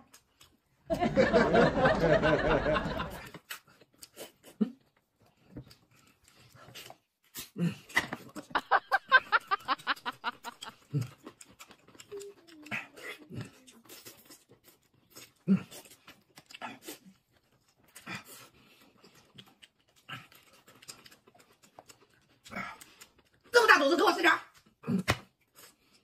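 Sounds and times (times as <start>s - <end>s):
wet chewing and smacking: 0.0s - 0.8s, 3.2s - 8.6s, 9.6s - 23.6s, 24.4s - 26.0s.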